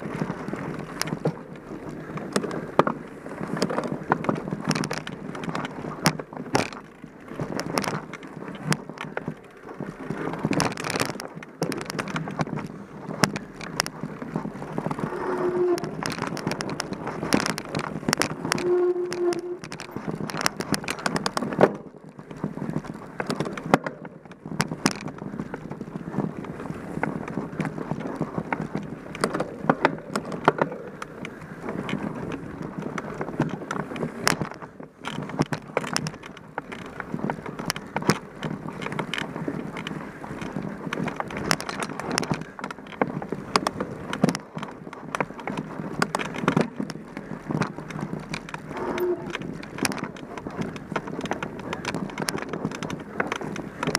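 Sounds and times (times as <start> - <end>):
bike rattling and knocking: 0.0 - 53.9
bike tyres rushing over trail: 0.0 - 53.9.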